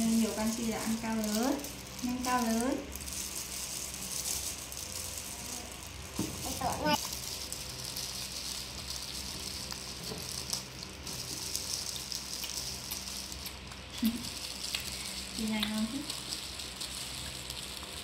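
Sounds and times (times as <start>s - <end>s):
shrimp being peeled crackling: 0.0s - 18.0s.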